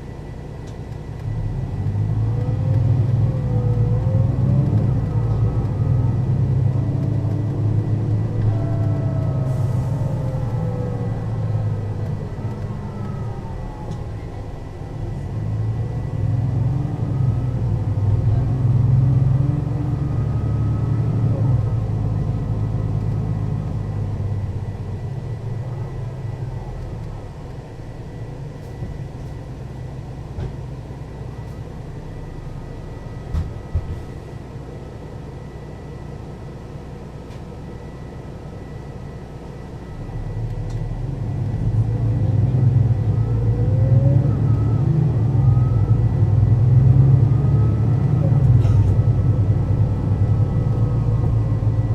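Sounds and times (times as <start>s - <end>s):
bus engine running: 0.0s - 51.9s.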